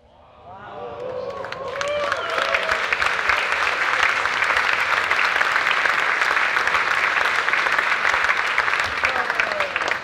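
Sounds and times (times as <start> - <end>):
large audience applauding: 1.0 - 10.0.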